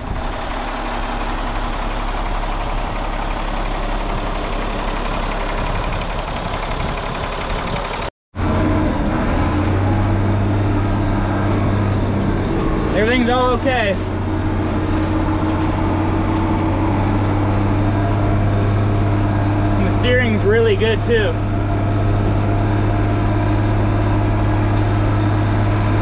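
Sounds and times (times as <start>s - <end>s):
diesel tractor engine running: 0.0s - 26.0s
low hum inside tractor cab: 0.0s - 26.0s.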